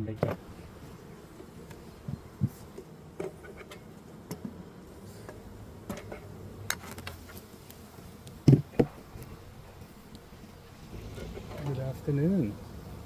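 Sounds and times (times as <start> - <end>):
honey bees humming: 0.0 - 13.0.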